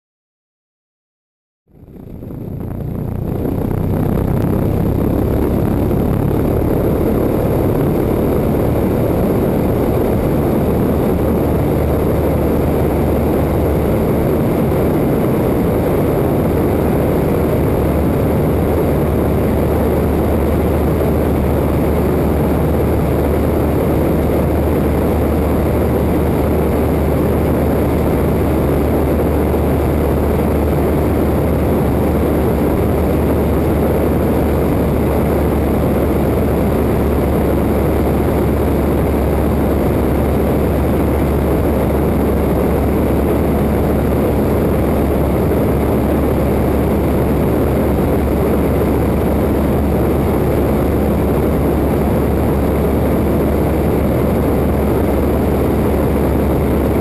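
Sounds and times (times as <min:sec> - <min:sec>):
propeller plane engine drone: 0:01.7 - 0:57.0
wind rushing: 0:01.8 - 0:57.0.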